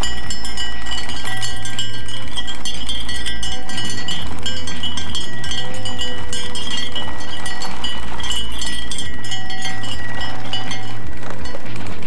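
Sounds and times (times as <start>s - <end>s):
cowbell clanking: 0.0s - 12.0s
fan humming: 0.0s - 12.0s.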